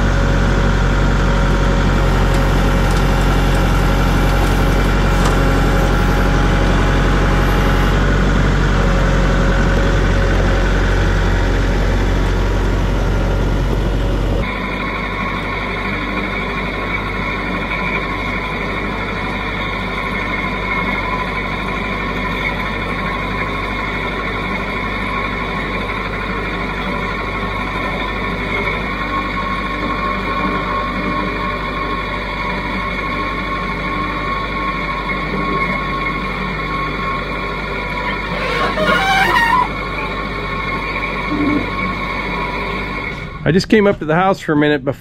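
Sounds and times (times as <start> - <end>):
engine high whine: 0.0 - 45.0
tractor diesel engine running: 0.0 - 45.0.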